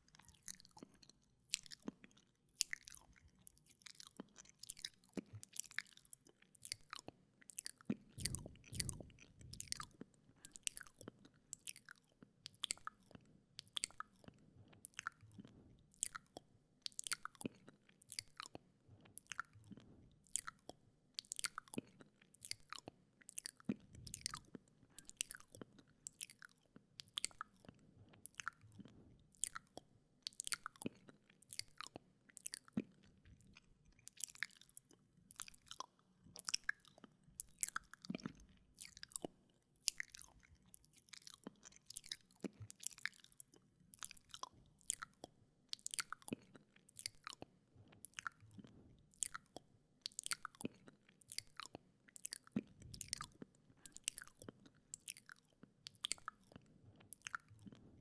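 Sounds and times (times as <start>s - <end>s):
wet mouth clicks and smacks: 0.1s - 18.6s, 19.2s - 57.9s.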